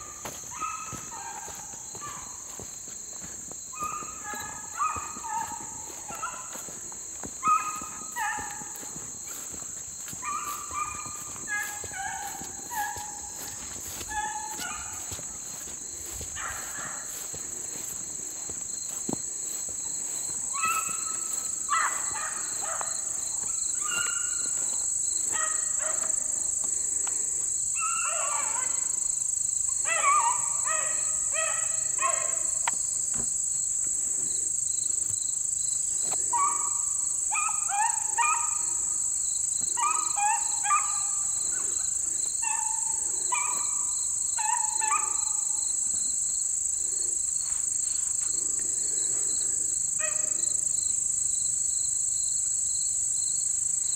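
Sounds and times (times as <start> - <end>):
hounds baying: 0.0 - 34.3, 35.8 - 50.8
insects droning: 0.0 - 53.9.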